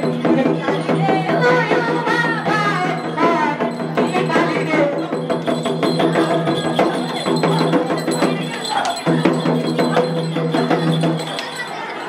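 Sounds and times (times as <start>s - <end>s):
quick percussion strokes: 0.0s - 11.9s.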